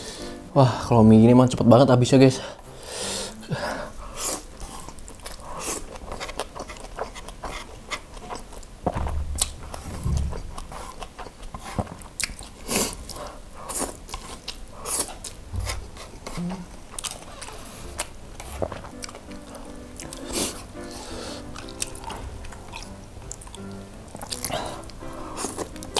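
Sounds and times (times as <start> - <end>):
chewing: 4.0 - 8.7, 9.3 - 25.9.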